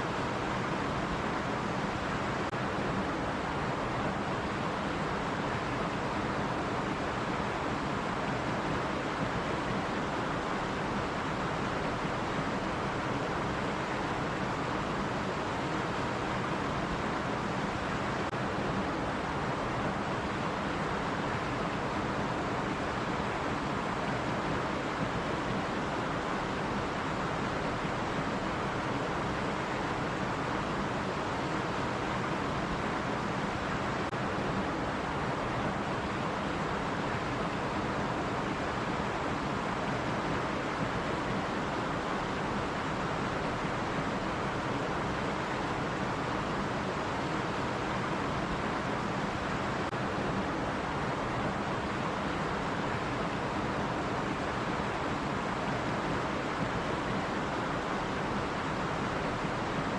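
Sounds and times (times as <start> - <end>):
stream water over rocks: 0.0 - 59.9.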